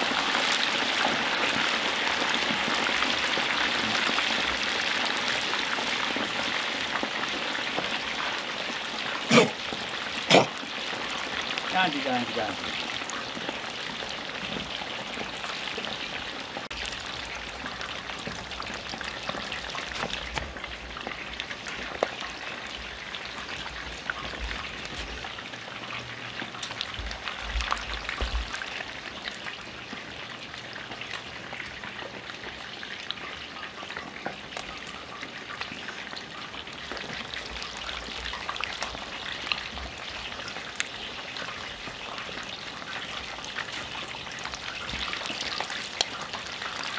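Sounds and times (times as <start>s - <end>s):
wings sizzling in hot oil: 0.0s - 46.9s.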